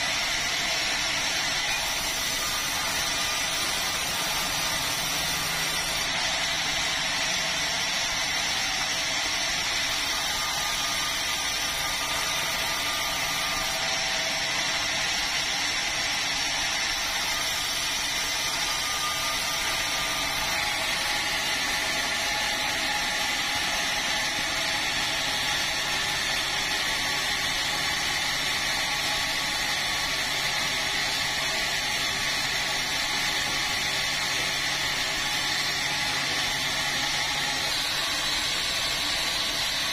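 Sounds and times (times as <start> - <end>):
power saw cutting log: 0.0 - 39.9.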